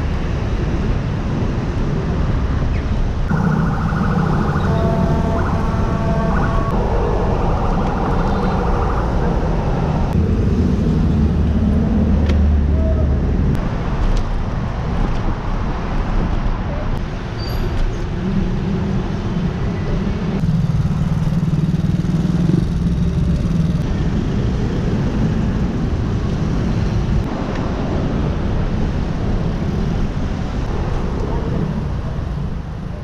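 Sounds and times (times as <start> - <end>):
steady engine hum: 0.0 - 17.2, 17.9 - 33.0
car and motorcycle engines: 0.0 - 33.0.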